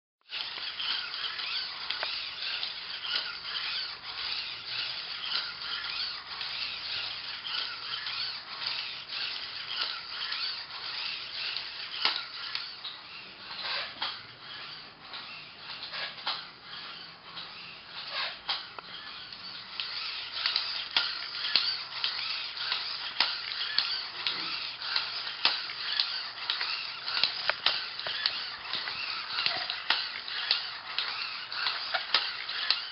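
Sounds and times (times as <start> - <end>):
robot legs clicking and tapping: 0.3 - 32.9
servo motors buzzing and whining: 0.3 - 32.9.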